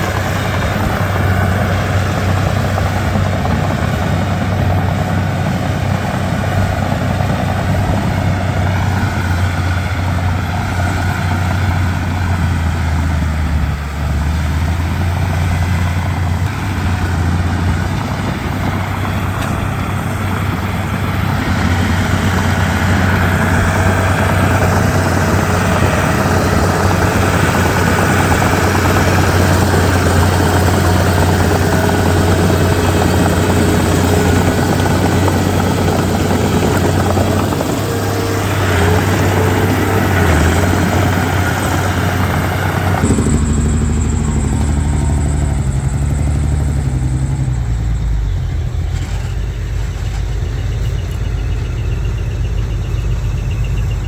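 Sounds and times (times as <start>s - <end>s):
bulldozer diesel engine running: 0.0s - 54.0s
noisy working sound: 0.0s - 54.0s.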